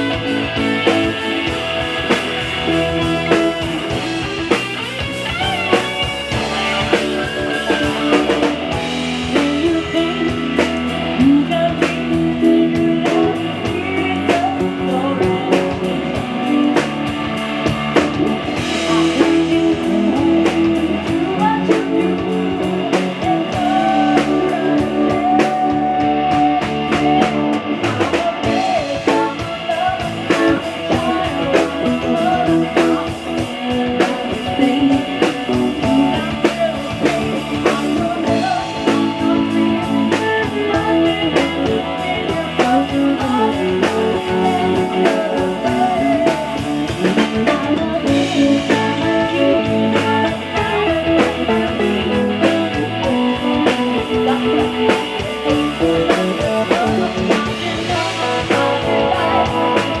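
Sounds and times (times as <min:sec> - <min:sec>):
blues-rock guitar and drums: 0:00.0 - 1:00.0
person singing: 0:00.0 - 1:00.0.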